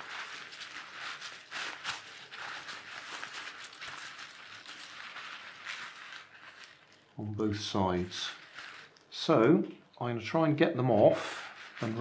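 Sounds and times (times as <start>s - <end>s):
fabric rustling and crinkling: 0.0s - 12.0s.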